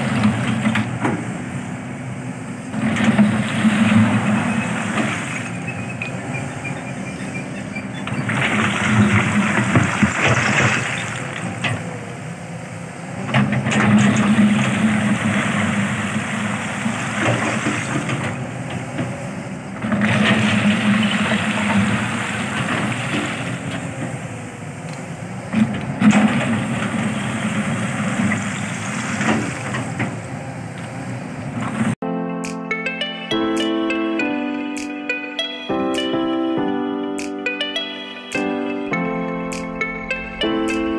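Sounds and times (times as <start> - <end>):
excavator diesel engine running: 0.0 - 34.6, 35.2 - 40.9.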